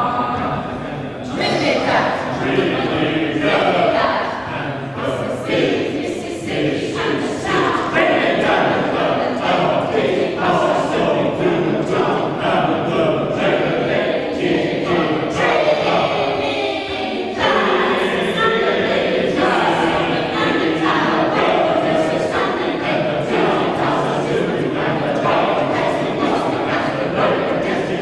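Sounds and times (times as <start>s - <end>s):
choir chanting in rhythm: 0.0s - 28.0s.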